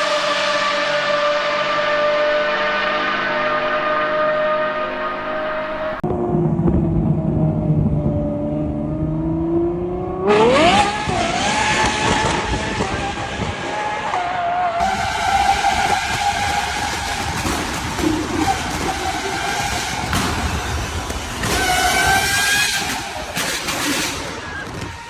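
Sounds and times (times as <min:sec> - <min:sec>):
car engine revving: 0:00.0 - 0:06.0, 0:07.6 - 0:25.0.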